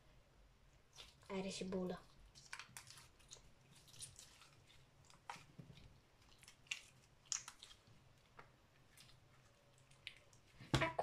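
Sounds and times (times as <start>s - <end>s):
slime squelching: 0.8s - 11.0s.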